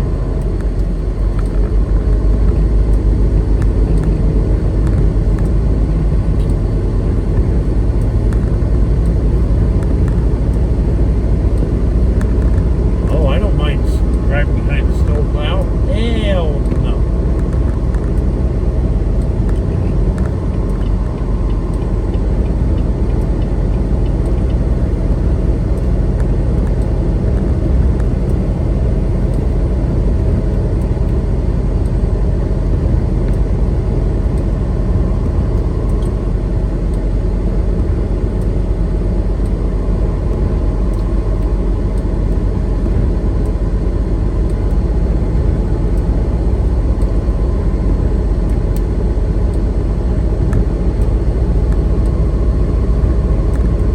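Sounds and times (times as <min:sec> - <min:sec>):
road noise: 0:00.0 - 0:53.9
truck engine drone: 0:00.0 - 0:53.9.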